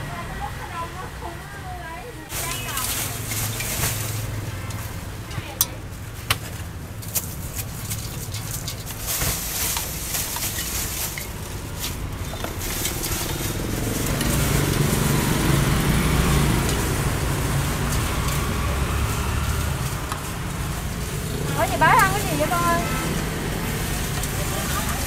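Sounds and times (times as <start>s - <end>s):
street traffic rumbling: 0.0s - 25.0s.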